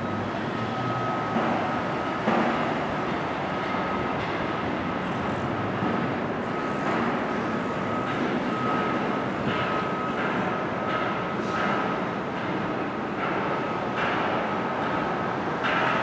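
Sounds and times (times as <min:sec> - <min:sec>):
moving train running noise: 0:00.0 - 0:16.0.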